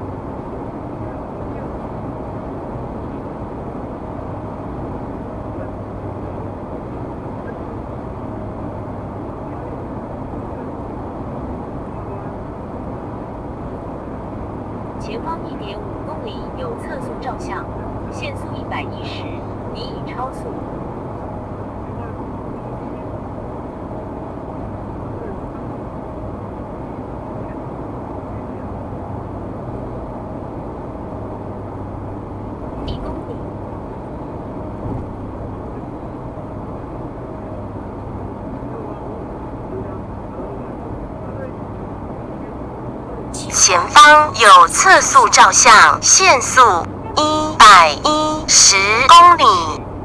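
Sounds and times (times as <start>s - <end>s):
car road and engine noise: 0.0s - 43.4s.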